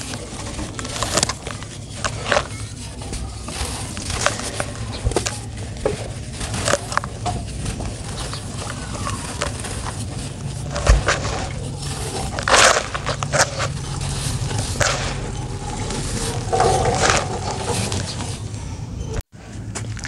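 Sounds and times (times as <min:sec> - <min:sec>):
hands crumbling dry earth: 0:00.0 - 0:18.7.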